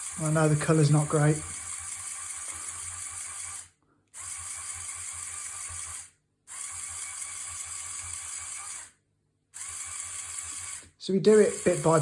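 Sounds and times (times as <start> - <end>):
toy motor gear whirring: 0.0 - 12.0.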